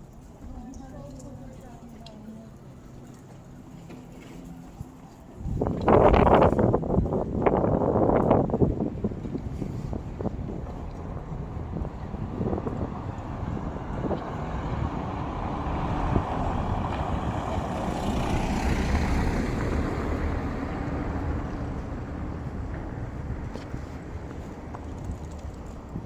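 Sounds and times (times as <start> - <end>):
vehicle passing by: 2.9 - 26.0.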